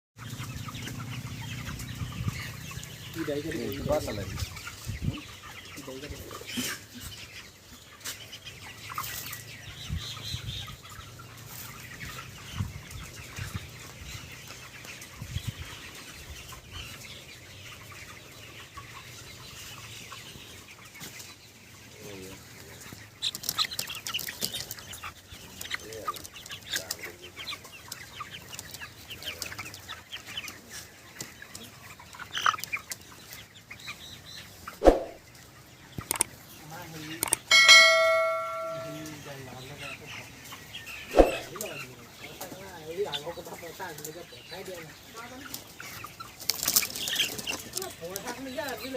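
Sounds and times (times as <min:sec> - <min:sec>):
chickens clucking and calling: 0:00.2 - 0:48.9.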